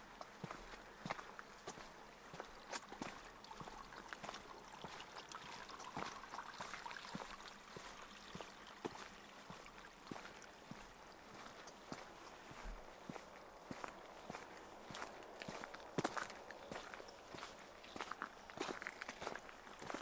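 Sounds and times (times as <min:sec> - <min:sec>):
footsteps on stony path: 0:00.0 - 0:20.0.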